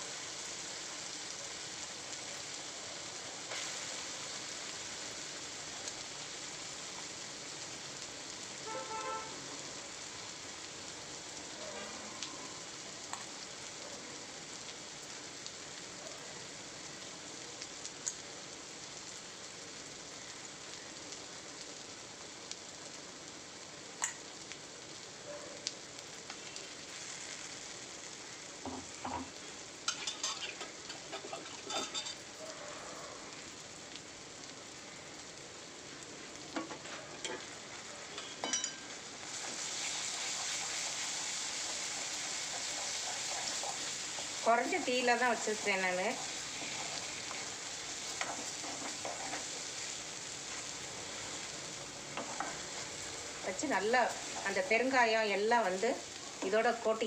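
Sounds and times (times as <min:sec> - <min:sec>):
paste sizzling in hot oil: 0:00.0 - 0:25.2, 0:25.8 - 0:57.0.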